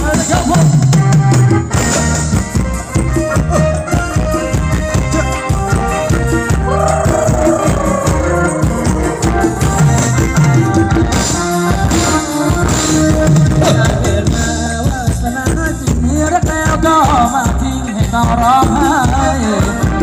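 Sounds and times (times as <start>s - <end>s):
drum kit beat: 0.0s - 20.0s
live band playing dance music: 0.0s - 20.0s
sliding lead melody: 0.9s - 20.0s.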